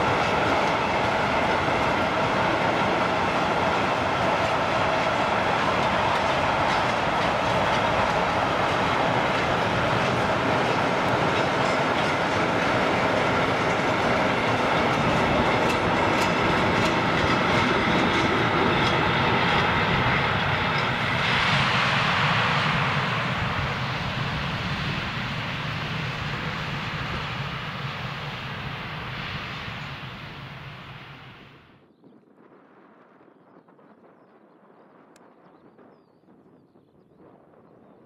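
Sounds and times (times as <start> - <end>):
freight train wheels on rails: 0.0 - 31.7.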